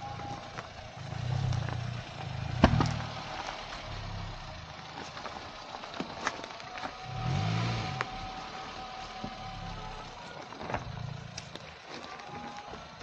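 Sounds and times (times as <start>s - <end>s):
car engine at low revs: 0.0s - 13.0s
stones knocking under tyres: 0.0s - 13.0s.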